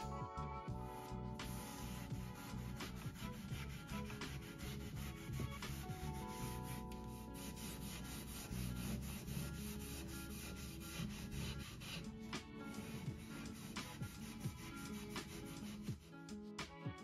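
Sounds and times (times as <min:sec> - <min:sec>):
soft background music: 0:00.0 - 0:17.0
rubbing on wood: 0:01.0 - 0:16.1.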